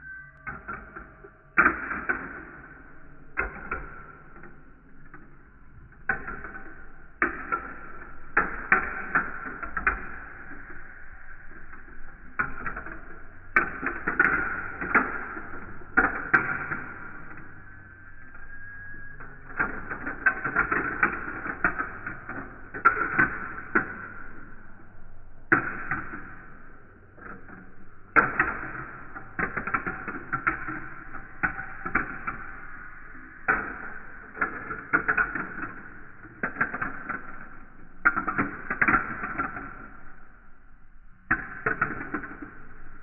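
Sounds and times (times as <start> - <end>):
marbles clattering through plastic run: 0.1 - 24.5, 25.5 - 43.0.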